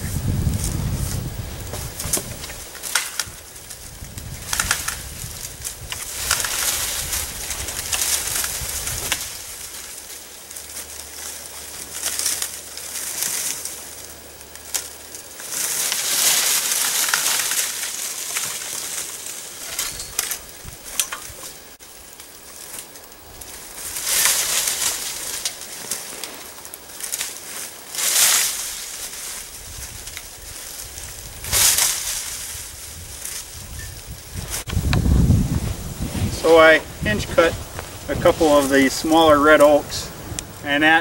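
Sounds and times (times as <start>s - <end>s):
dry leaves rustling and crackling: 0.0s - 41.0s
twigs snapping: 0.6s - 35.1s.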